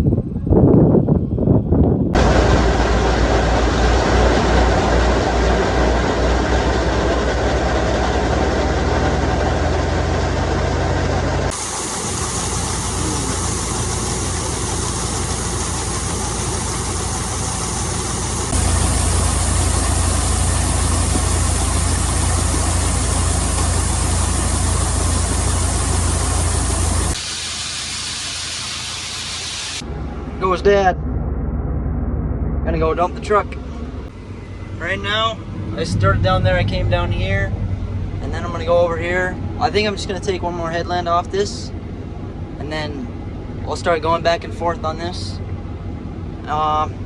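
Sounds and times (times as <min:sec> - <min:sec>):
heavy machinery engine running: 0:02.1 - 0:47.0.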